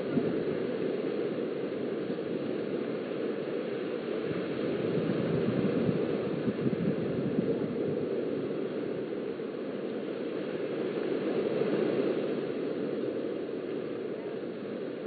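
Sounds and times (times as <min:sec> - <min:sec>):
surf washing onto beach: 0:00.0 - 0:15.0
wind: 0:00.0 - 0:15.0.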